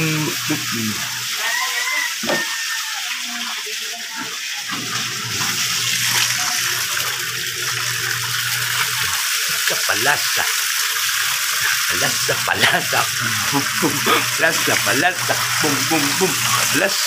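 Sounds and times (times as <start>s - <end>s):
water running from a tap: 0.0s - 17.0s
water splashing in a basin: 0.0s - 17.0s.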